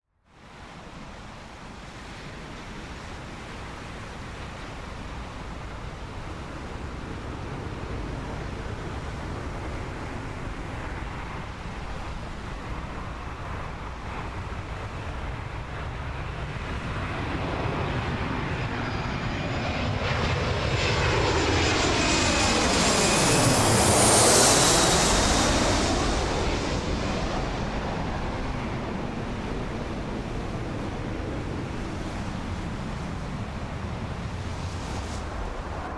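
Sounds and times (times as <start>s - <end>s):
airplane engines rumbling: 0.6s - 35.9s.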